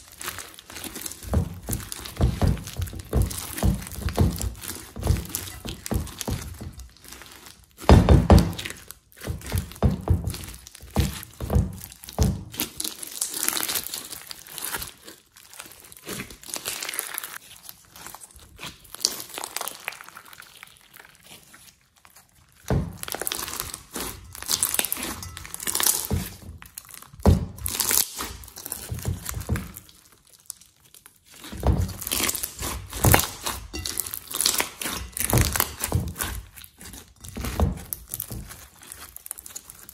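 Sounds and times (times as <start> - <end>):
slime squishing and crunching: 0.0 - 39.9.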